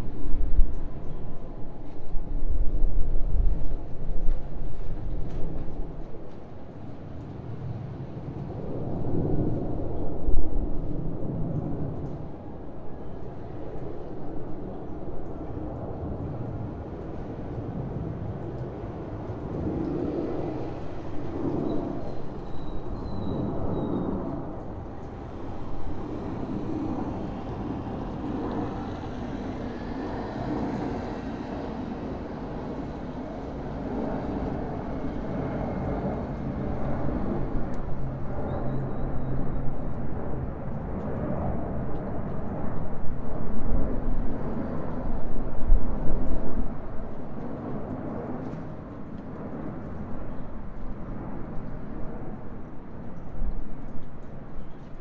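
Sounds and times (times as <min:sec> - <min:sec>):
plane flying overhead: 0:00.0 - 0:55.0.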